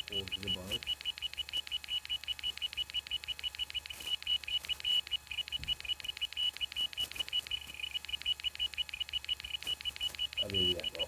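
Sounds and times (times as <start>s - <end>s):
hard drive ticking: 0.0s - 11.0s
high-pitched beep: 0.0s - 11.0s.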